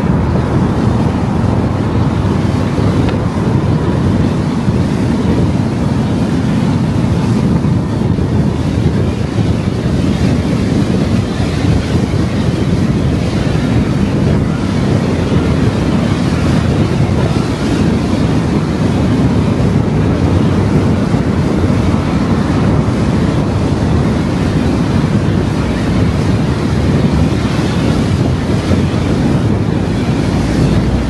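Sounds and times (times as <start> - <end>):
car road and wind noise: 0.0 - 31.0.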